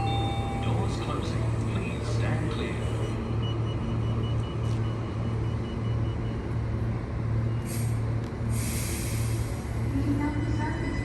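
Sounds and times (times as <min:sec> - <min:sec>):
electric train pulsing hum: 0:00.0 - 0:11.0.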